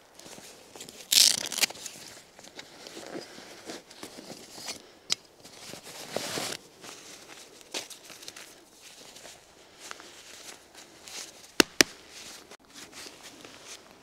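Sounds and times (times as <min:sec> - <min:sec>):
rustling in dry leaves and twigs: 0:00.0 - 0:14.0.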